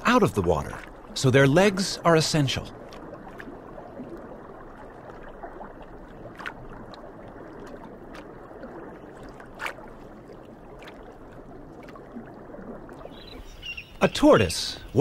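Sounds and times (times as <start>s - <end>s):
underwater water noise: 0.0s - 15.0s.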